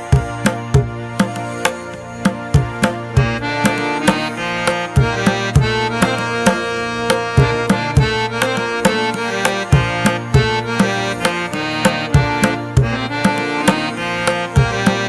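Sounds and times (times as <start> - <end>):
hand drum beat: 0.0 - 15.0.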